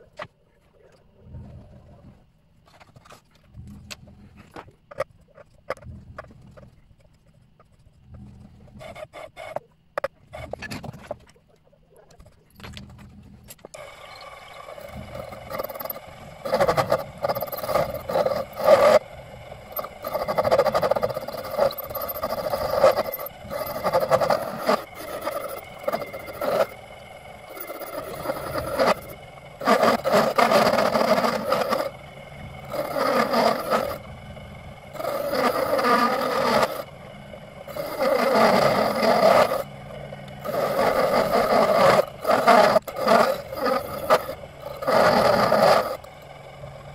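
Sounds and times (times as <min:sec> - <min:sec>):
workshop tool working material: 0:07.6 - 0:11.4, 0:12.1 - 0:46.7.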